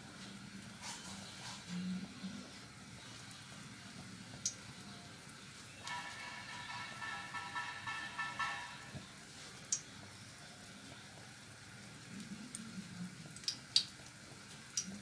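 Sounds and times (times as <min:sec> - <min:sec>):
food sizzling in oil: 0:00.0 - 0:15.0
oil popping: 0:00.6 - 0:10.2, 0:11.2 - 0:15.0.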